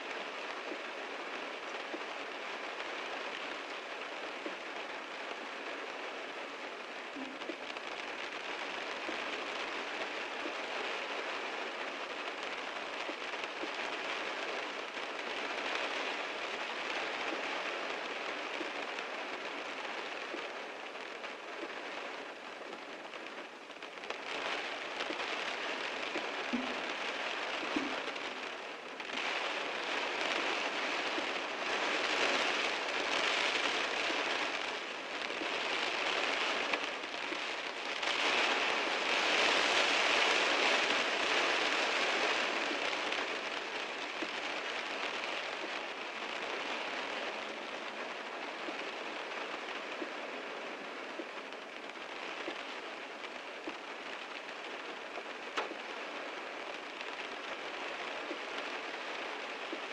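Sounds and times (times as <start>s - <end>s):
heavy rain on a car: 0.0s - 59.9s.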